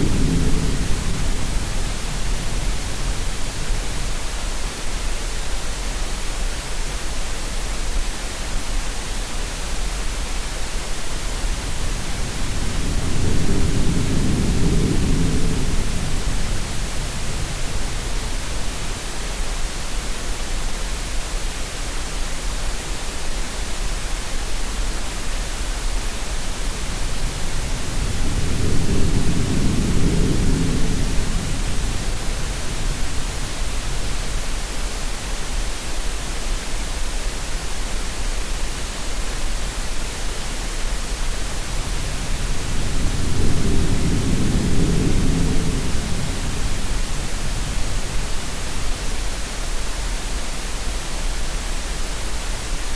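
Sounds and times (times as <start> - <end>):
steady noise hiss: 0.0 - 52.9.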